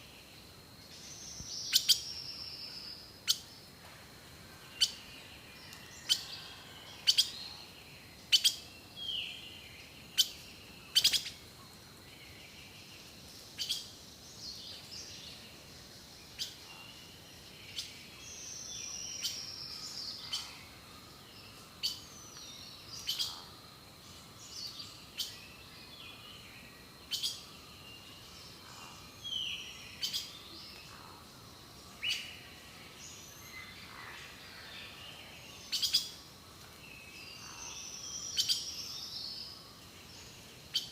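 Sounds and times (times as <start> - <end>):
birds singing and calling: 0.0 - 40.9.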